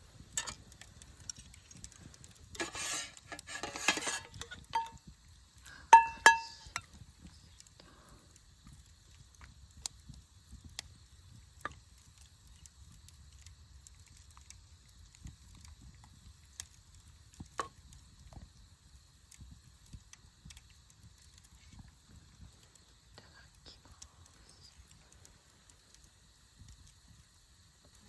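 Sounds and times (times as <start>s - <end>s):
small clicks and pops: 0.2s - 28.0s.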